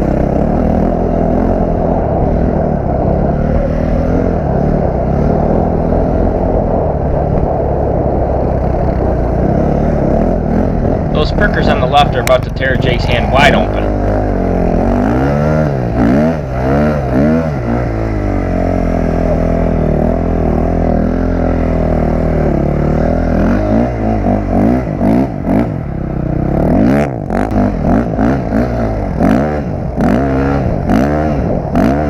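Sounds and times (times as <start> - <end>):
dirt bike engine revving: 0.0 - 6.6, 8.8 - 32.0.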